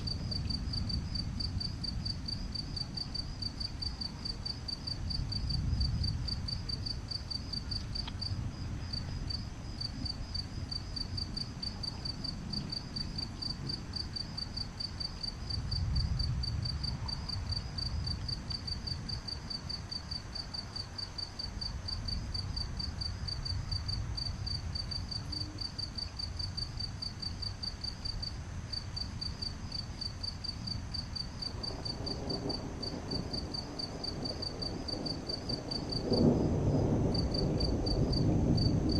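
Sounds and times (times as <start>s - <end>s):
crickets chirping: 0.0s - 38.9s
distant thunder rumble: 0.0s - 38.9s.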